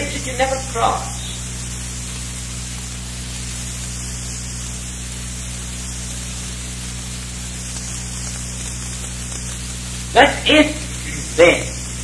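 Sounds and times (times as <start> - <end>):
low electrical hum: 0.0 - 12.0
steady hiss: 0.0 - 12.0.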